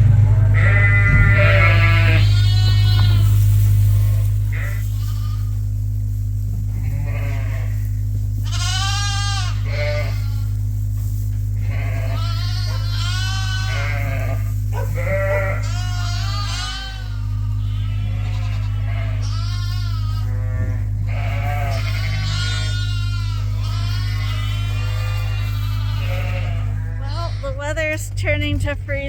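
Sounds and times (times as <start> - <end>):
steady low hum: 0.0 - 29.0
sheep bleating: 0.2 - 5.8, 6.7 - 10.7, 11.6 - 28.0.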